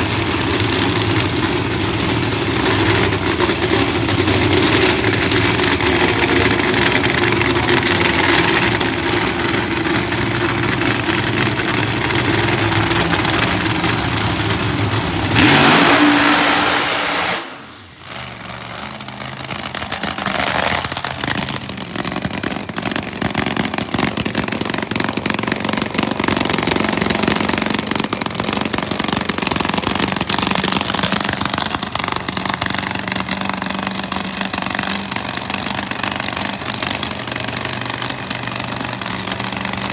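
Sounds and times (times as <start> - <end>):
drag racing car engine revving: 0.0 - 39.9.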